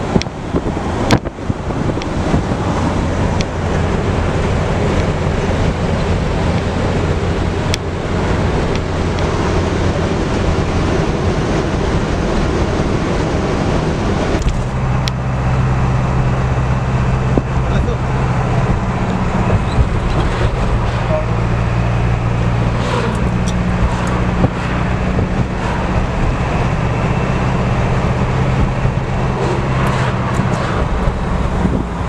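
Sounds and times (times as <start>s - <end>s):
steady low drone: 0.0s - 32.0s
vehicle road and engine noise: 0.0s - 32.0s
wind on microphone: 0.0s - 32.0s.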